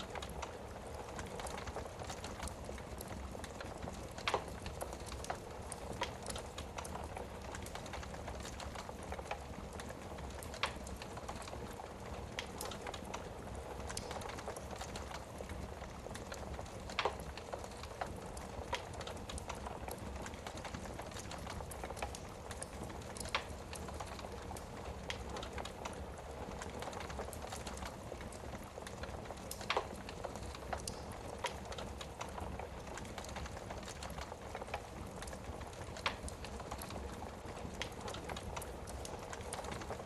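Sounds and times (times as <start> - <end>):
low hiss of fire: 0.0 - 40.0
wood fire crackling and popping: 0.0 - 40.0.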